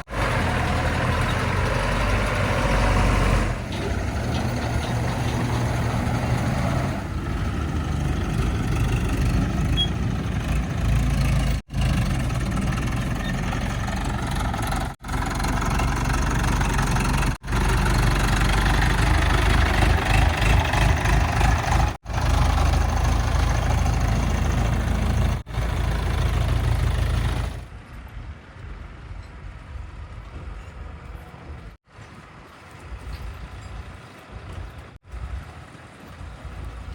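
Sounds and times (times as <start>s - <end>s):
heavy diesel engines under load: 0.0s - 36.9s.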